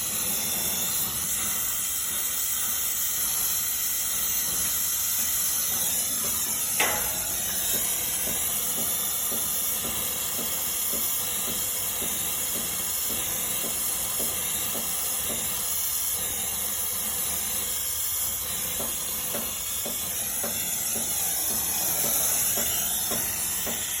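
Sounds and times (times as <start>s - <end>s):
torch flame hissing: 0.0s - 24.0s.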